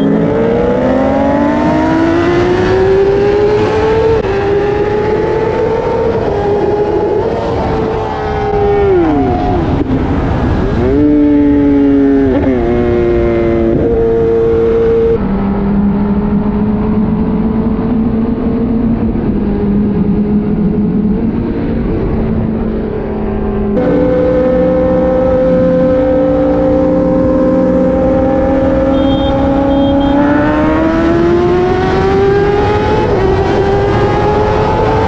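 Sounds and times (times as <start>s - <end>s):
motorcycle engine revving: 0.0s - 35.0s
rushing wind: 0.0s - 35.0s.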